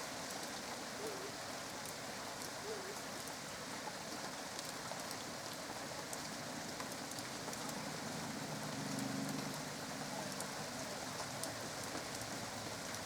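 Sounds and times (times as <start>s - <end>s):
steady rain falling: 0.0s - 13.0s
raindrops ticking: 1.7s - 13.0s.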